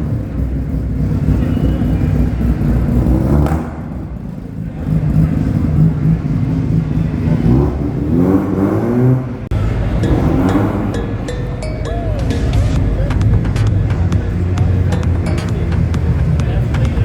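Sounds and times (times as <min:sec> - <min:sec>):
car engine rumbling and revving: 0:00.0 - 0:17.0.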